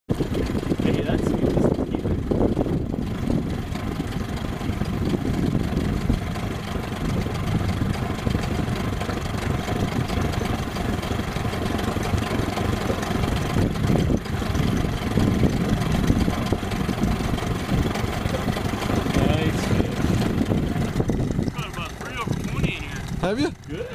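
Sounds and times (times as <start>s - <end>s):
outboard motor idling: 0.1s - 23.9s.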